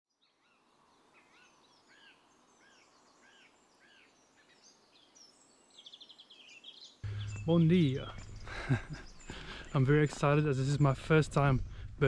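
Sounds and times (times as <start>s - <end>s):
small birds twittering: 0.1s - 10.6s.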